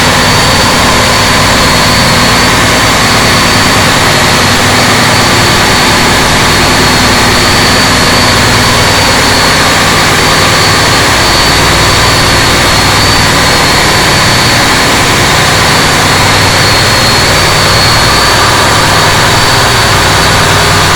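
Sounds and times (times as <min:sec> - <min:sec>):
boat engine running: 0:00.0 - 0:20.9.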